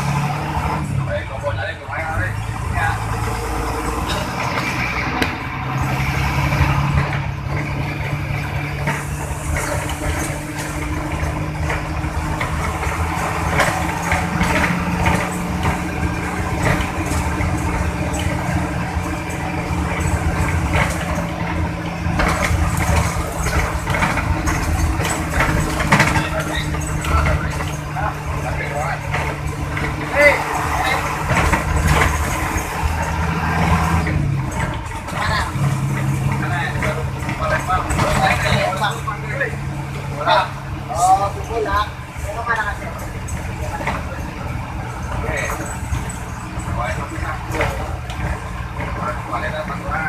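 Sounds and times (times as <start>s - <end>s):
bus diesel engine droning: 0.0s - 50.0s
rattles: 0.0s - 50.0s.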